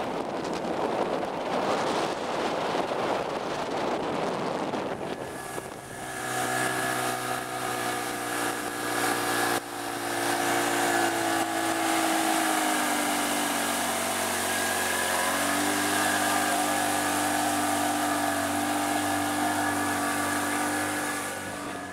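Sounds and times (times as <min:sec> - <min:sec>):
outboard motor running: 0:00.0 - 0:21.9.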